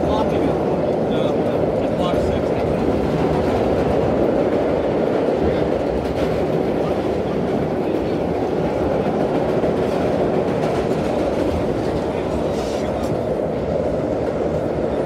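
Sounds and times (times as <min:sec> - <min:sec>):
subway car wheels rumbling on rail: 0:00.0 - 0:15.0.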